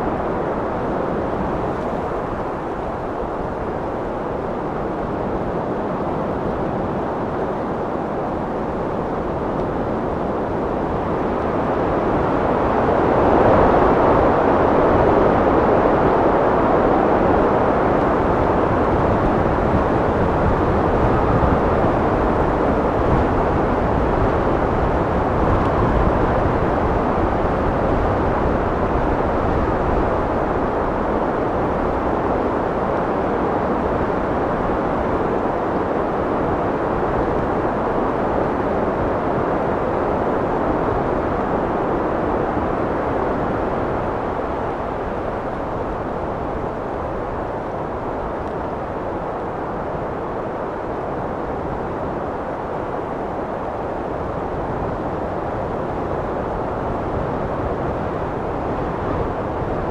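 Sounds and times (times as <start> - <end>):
wind blowing: 0.0 - 59.9.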